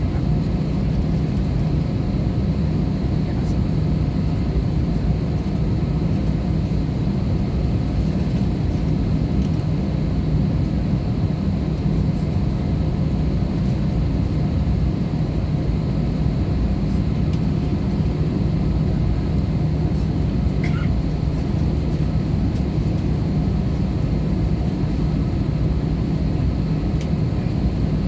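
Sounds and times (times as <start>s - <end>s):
airplane cabin engine drone: 0.0s - 28.0s.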